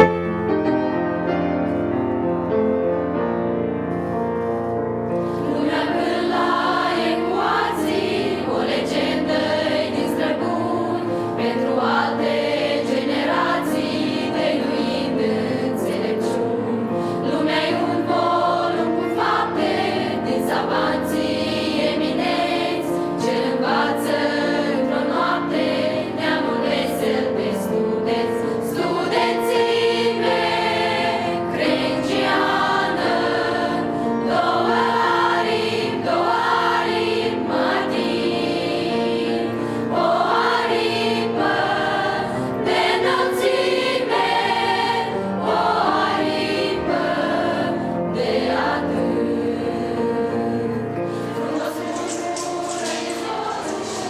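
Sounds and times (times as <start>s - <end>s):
women's choir singing: 5.2s - 54.0s.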